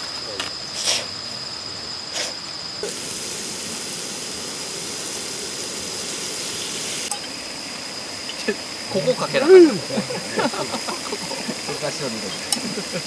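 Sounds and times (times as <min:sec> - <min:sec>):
crickets trilling: 0:00.0 - 0:13.0
steady hiss: 0:00.0 - 0:13.0.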